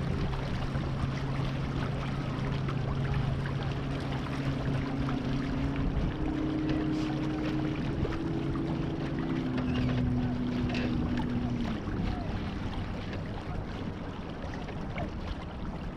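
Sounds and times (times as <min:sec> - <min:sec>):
low hum: 0:00.0 - 0:15.9
water rushing along boat hull: 0:00.0 - 0:15.9.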